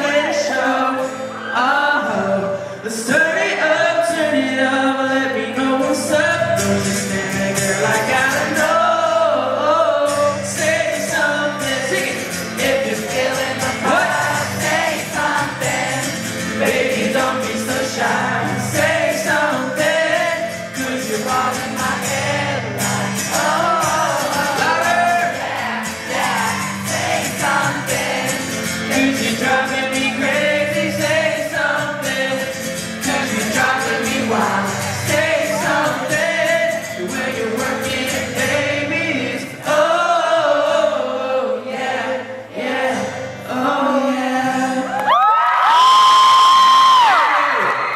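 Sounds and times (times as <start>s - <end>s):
man singing pop song: 0.0s - 41.6s, 42.7s - 45.4s
pop backing track with bass: 0.0s - 45.2s.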